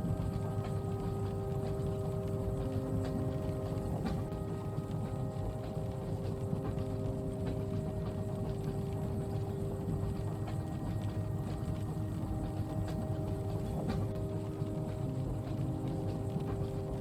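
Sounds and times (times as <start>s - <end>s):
faint steady hum: 0.0s - 17.0s
rain ticking on window: 0.1s - 17.0s.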